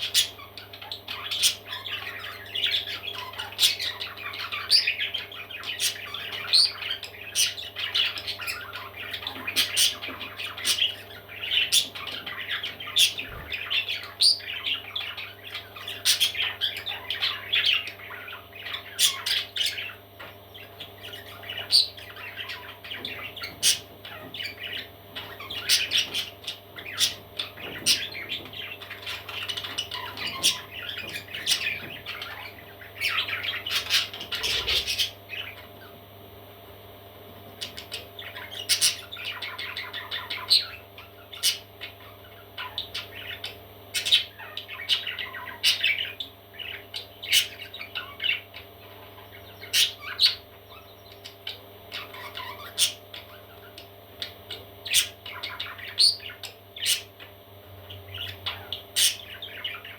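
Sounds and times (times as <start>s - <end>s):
parrot chicks squawking: 0.0s - 36.0s, 37.4s - 59.9s.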